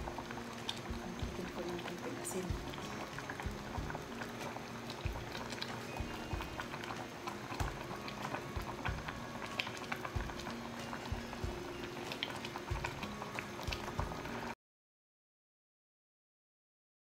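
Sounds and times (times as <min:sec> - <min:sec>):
soup boiling with bubbling pops: 0:00.0 - 0:14.6.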